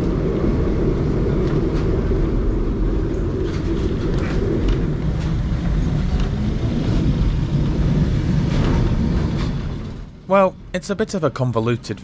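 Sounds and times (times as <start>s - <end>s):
tram wheels and motor rumbling: 0.0s - 12.0s.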